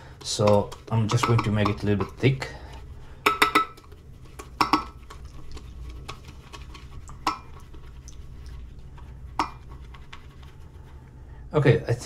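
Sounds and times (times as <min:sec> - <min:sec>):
brush swishing in metal bowl: 0:00.0 - 0:11.3.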